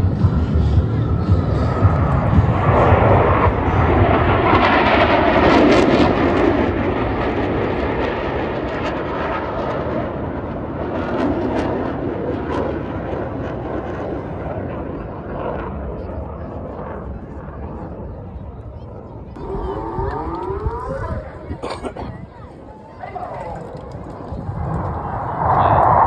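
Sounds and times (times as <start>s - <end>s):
jets roaring overhead: 0.0s - 18.5s, 19.1s - 26.0s.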